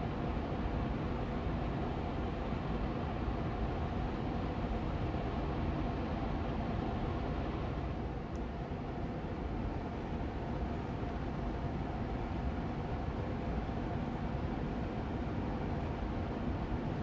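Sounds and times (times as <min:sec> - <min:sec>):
air purifier fan running: 0:00.0 - 0:17.0.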